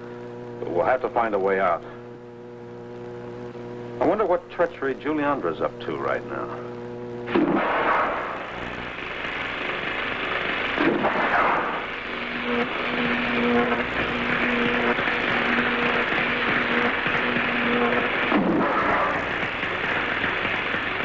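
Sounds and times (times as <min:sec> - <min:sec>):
pulsing low hum: 0:00.0 - 0:21.0
rushing electric hiss: 0:02.8 - 0:21.0.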